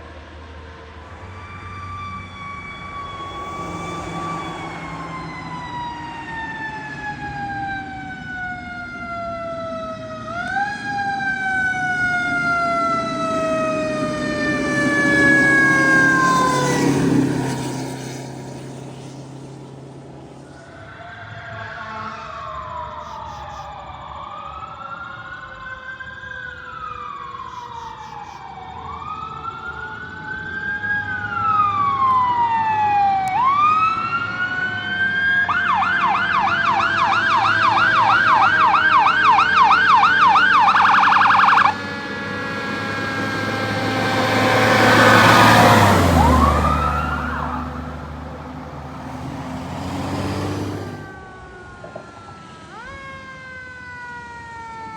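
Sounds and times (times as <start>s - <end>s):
vehicle passing by: 0.0s - 21.8s, 28.5s - 52.6s
fire engine siren wailing and yelping: 0.1s - 54.9s.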